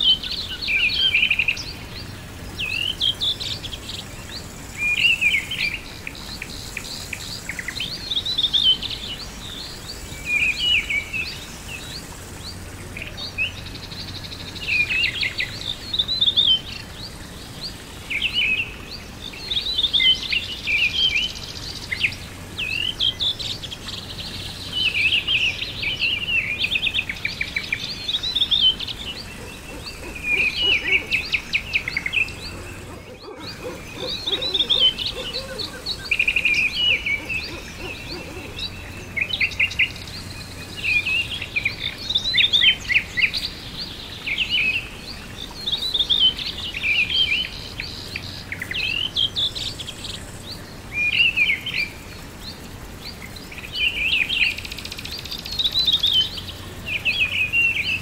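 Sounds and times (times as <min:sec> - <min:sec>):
birds singing chirps and trills: 0:00.0 - 0:58.0
faint steady hiss: 0:00.0 - 0:58.0.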